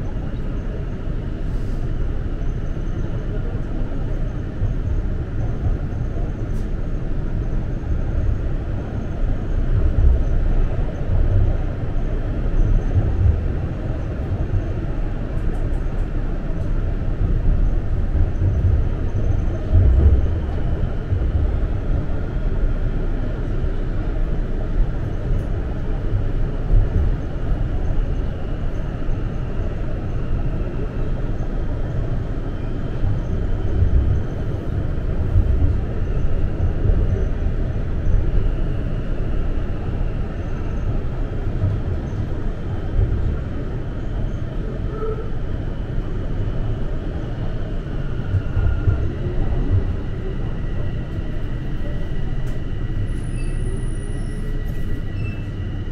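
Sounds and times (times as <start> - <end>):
subway wheels rumbling on rail: 0.0 - 55.9.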